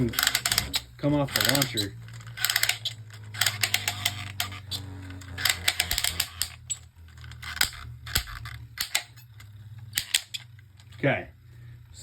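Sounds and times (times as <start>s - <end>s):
hard plastic clicks and clatter: 0.0s - 4.7s, 5.4s - 11.0s
steady low hum: 0.0s - 12.0s.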